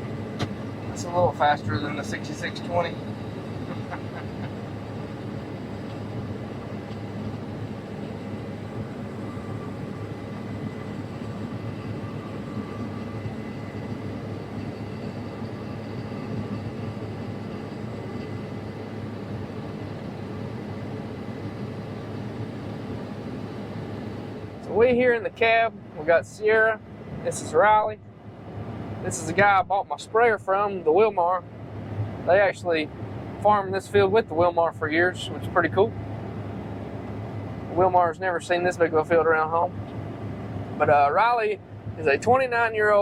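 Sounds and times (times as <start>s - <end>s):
combine harvester humming: 0.0s - 43.0s
high steady whine: 0.0s - 43.0s.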